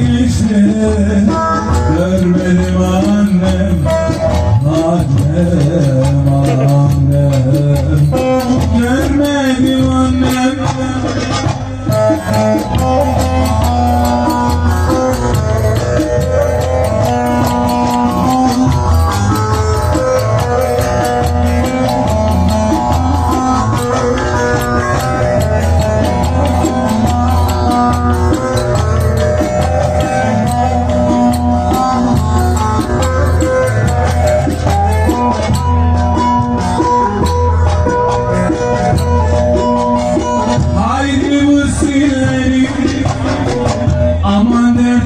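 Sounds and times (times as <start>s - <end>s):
low drum beat: 0.0s - 45.0s
plucked string melody: 0.0s - 45.0s
clicking percussion: 1.3s - 44.1s.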